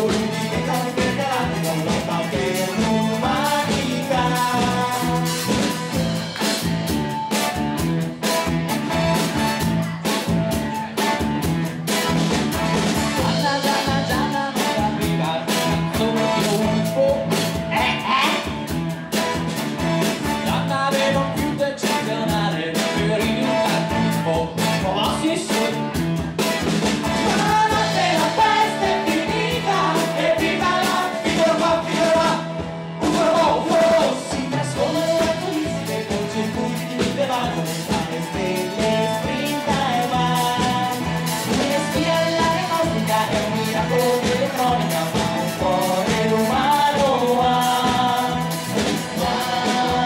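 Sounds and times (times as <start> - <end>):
man singing: 0.0 - 6.6, 13.0 - 18.7, 20.2 - 26.1, 27.1 - 50.0
bass guitar: 0.0 - 50.0
drum kit: 0.0 - 50.0
electric guitar: 0.0 - 50.0.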